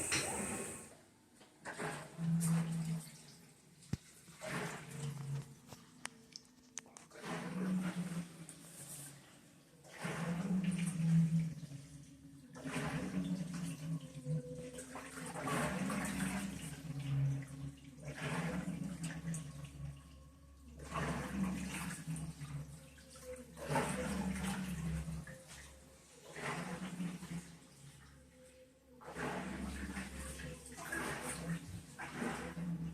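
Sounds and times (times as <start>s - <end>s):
washing machine hum: 0.0s - 32.9s
washing machine water sloshing: 0.0s - 32.9s.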